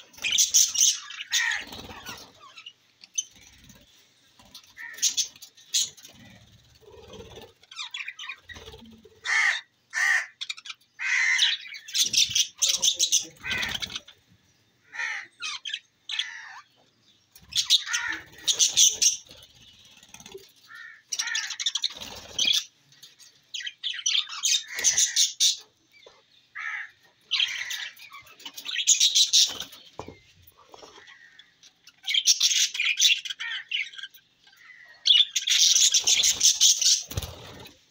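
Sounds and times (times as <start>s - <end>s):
budgerigars chirping and chattering: 0.0s - 37.9s.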